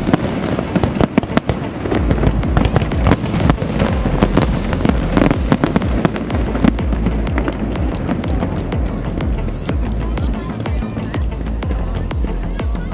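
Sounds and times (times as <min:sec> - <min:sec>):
fireworks cracking and popping: 0:00.0 - 0:12.4
low booming rumble: 0:00.0 - 0:12.9
music playing: 0:00.0 - 0:12.9.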